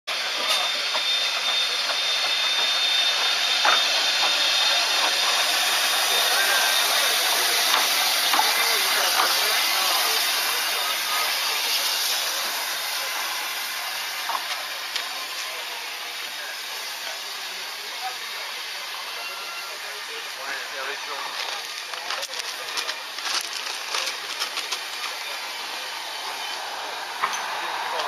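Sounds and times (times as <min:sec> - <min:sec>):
steam hissing: 0:00.1 - 0:28.0.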